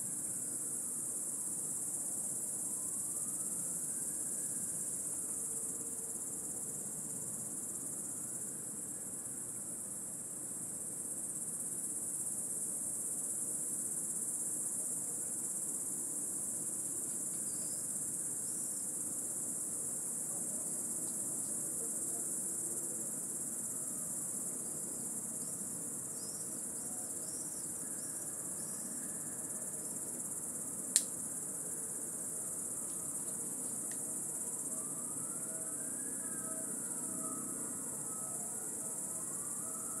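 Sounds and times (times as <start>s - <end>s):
cicada chorus drone: 0.0s - 40.0s.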